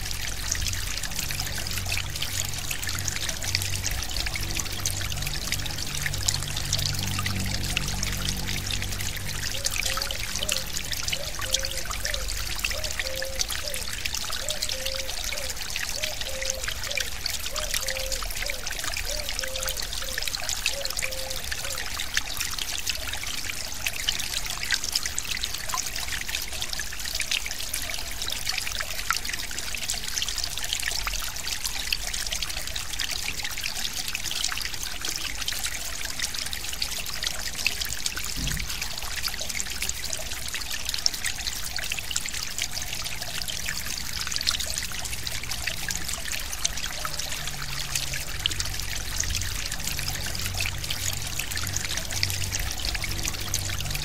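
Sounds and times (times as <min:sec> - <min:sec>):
stream trickling and splashing: 0:00.0 - 0:54.0.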